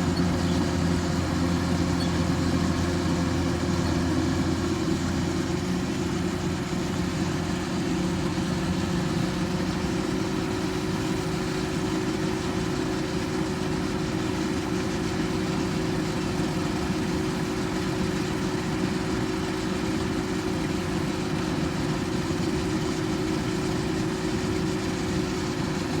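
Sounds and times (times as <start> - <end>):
harvester engine running: 0.0 - 26.0.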